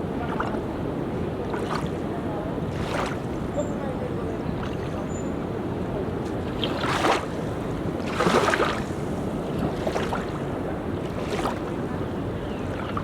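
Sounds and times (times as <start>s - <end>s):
sea waves washing onto beach: 0.0s - 13.0s
wind rumble on microphone: 0.0s - 13.0s.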